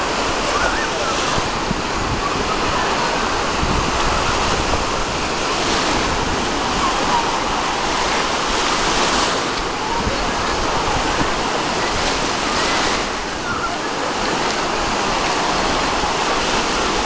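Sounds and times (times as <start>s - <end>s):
faint voices: 0.0s - 17.0s
small waves washing up beach: 0.0s - 17.0s.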